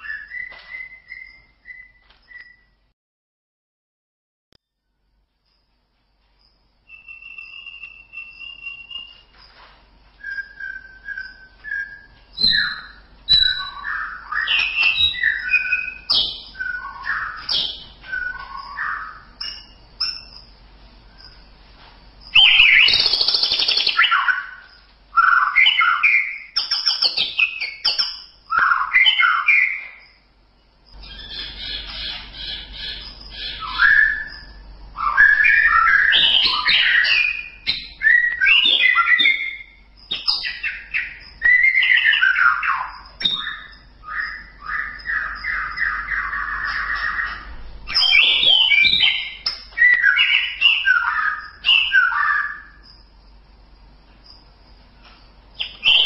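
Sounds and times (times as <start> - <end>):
bird singing whistled phrases: 0.0 - 2.8, 6.9 - 9.3, 10.2 - 20.3, 22.3 - 30.2, 31.0 - 52.8, 55.6 - 56.0.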